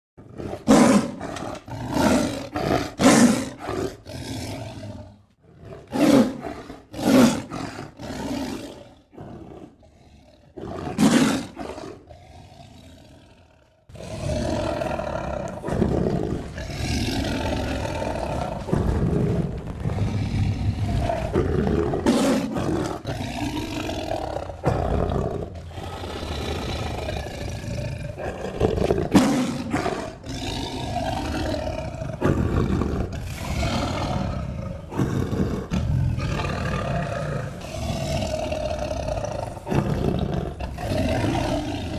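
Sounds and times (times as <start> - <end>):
tiger growling and snarling: 0.2 - 41.9
tiger roaring: 0.2 - 41.9.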